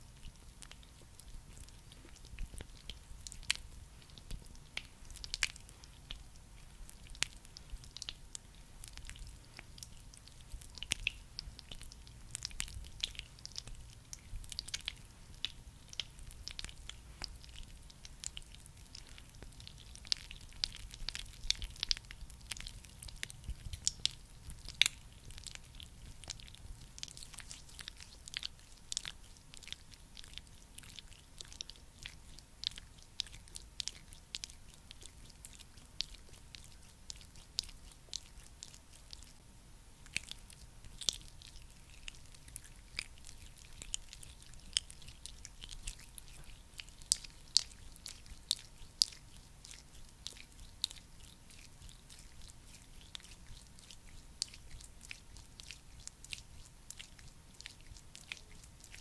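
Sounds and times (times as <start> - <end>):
sticky cream clicking and crackling: 0.0 - 59.0.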